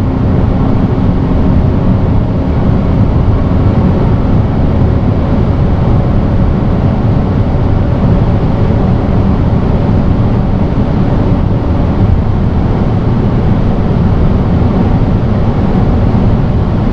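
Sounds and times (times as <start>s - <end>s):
car engine drone from cabin: 0.0s - 16.9s.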